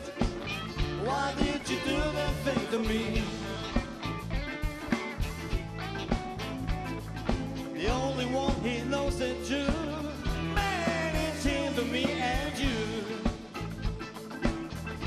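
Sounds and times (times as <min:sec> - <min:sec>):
lead guitar bending notes: 0:00.0 - 0:15.0
live rock band playing: 0:00.0 - 0:15.0.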